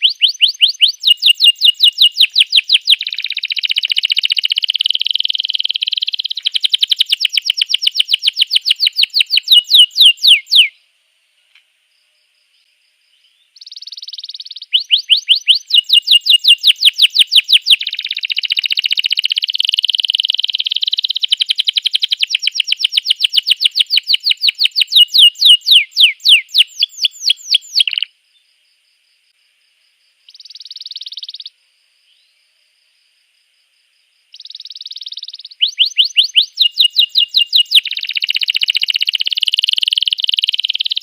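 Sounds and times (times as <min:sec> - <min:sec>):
canary singing trills: 0:00.0 - 0:10.9, 0:13.1 - 0:28.1, 0:30.3 - 0:32.3, 0:34.3 - 0:41.0.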